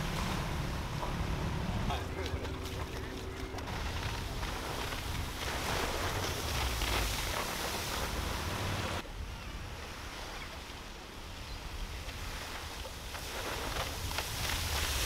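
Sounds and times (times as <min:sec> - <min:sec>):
small waves washing in: 0:00.0 - 0:15.0
wind buffeting microphone: 0:00.0 - 0:15.0.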